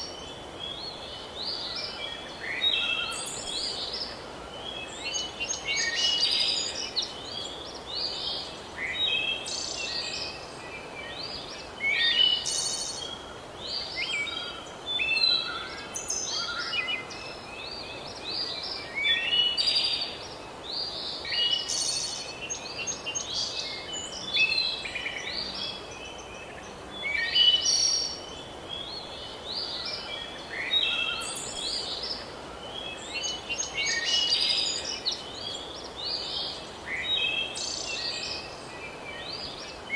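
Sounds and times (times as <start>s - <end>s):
songbirds singing and chirping: 0.0s - 39.9s
steady background hiss: 0.0s - 39.9s.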